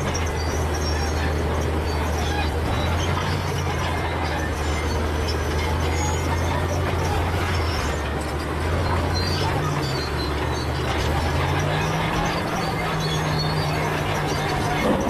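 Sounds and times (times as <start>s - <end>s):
bulldozer diesel engine under load: 0.0s - 15.0s
steel tracks squeaking: 0.0s - 15.0s.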